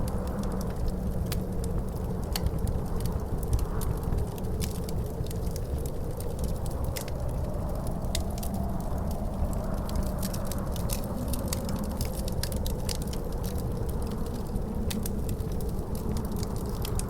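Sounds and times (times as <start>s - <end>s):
howling wind: 0.0s - 17.0s
log fire crackling and popping: 0.0s - 17.0s.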